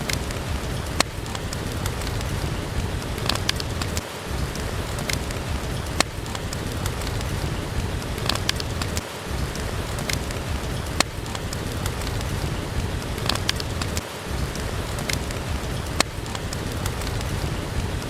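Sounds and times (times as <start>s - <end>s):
log fire crackling: 0.0s - 18.0s
rain hissing: 0.0s - 18.0s.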